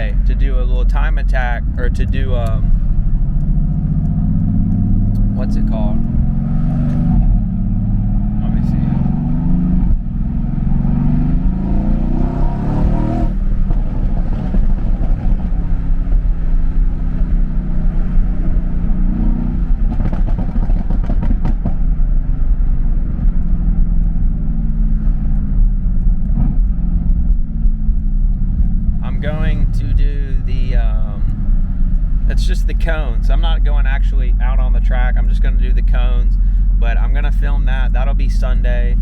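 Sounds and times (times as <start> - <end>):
car engine under way from inside: 0.0 - 39.0.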